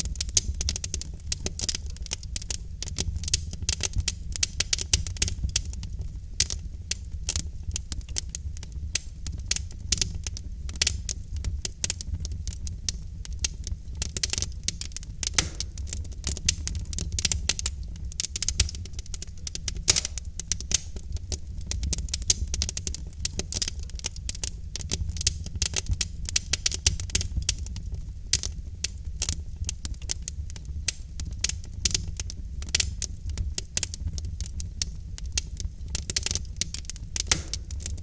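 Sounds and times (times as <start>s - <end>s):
fire popping and snapping: 0.0s - 38.0s
low rumble of flames: 0.0s - 38.0s.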